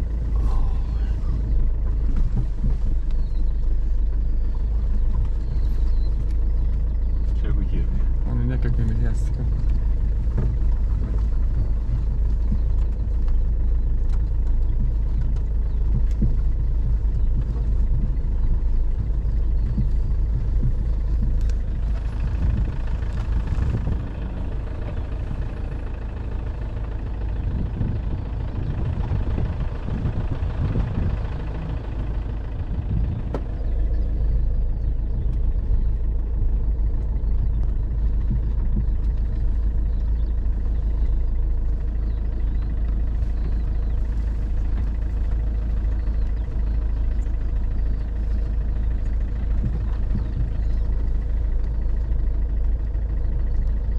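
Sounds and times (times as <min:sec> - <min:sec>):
engine and tyre rumble: 0:00.0 - 0:53.9.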